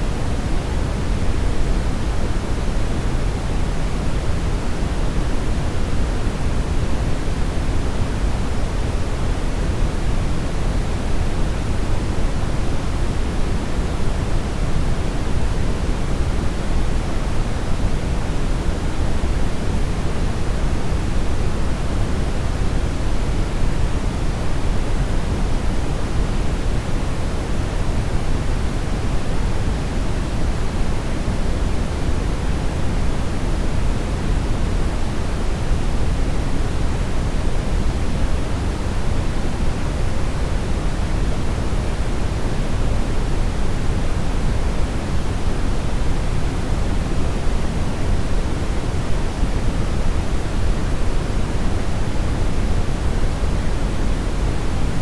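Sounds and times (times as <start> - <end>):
low steady hiss: 0.0 - 55.0.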